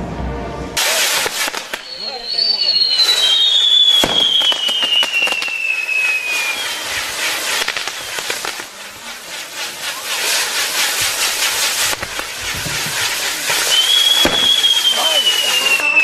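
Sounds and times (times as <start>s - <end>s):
firework whistle falling: 0.8s - 16.0s
fireworks fizzing and cracking: 0.8s - 16.0s.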